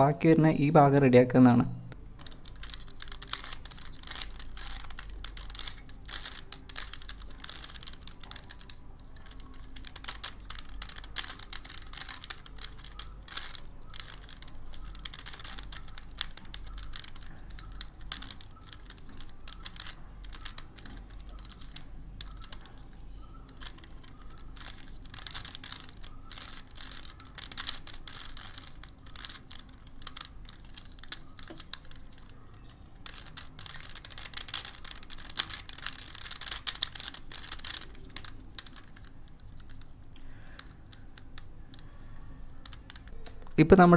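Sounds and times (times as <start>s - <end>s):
puzzle cube layers clicking: 2.2s - 43.9s.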